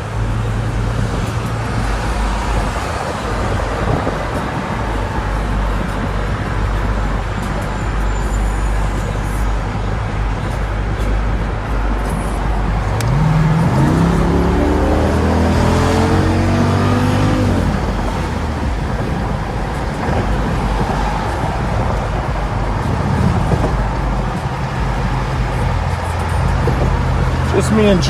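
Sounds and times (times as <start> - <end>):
car engine accelerating: 0.0 - 28.0
road noise while cruising: 0.0 - 28.0.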